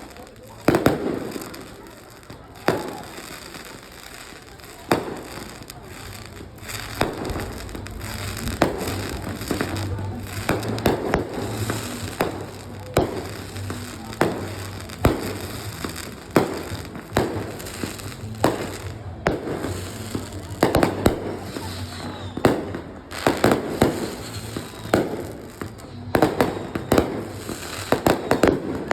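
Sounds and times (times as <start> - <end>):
fireworks booming: 0.0 - 28.9
fireworks crackle: 0.0 - 28.9.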